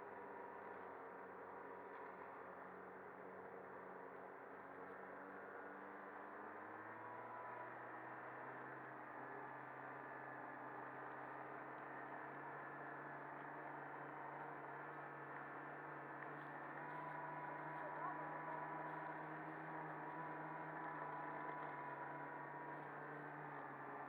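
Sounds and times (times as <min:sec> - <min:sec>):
snowmobile engine droning: 0:00.0 - 0:24.0.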